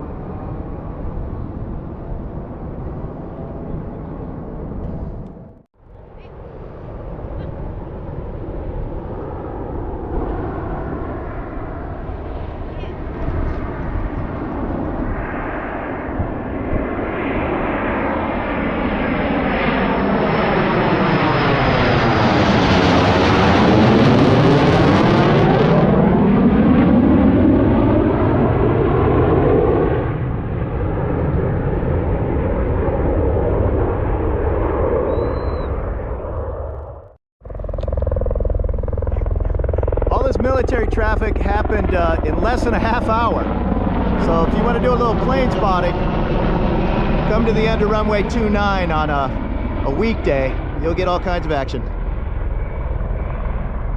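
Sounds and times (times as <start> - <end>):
distant aircraft engine: 0.0 - 53.9
wind buffeting microphone: 0.0 - 53.9.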